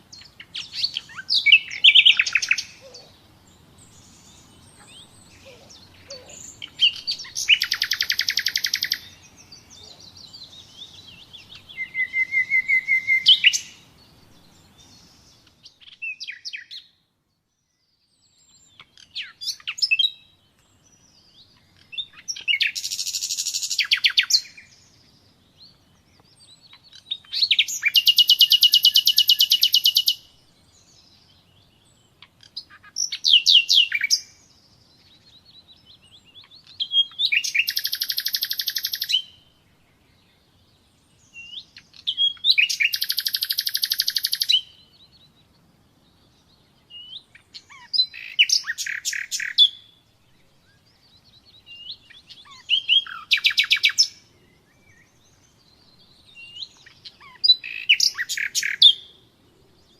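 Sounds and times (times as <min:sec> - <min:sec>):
nightingale singing: 0:00.0 - 0:59.9.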